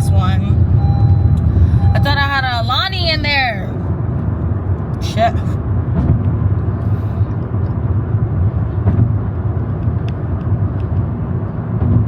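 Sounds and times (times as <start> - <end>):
car engine rumble inside car: 0.0 - 12.0.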